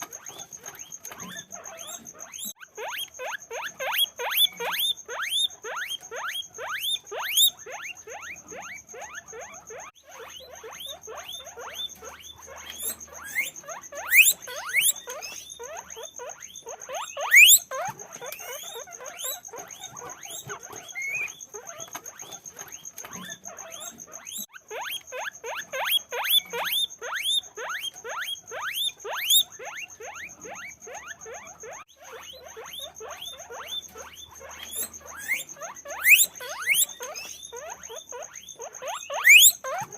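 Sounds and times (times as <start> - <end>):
guinea pigs squeaking: 0.0 - 39.9.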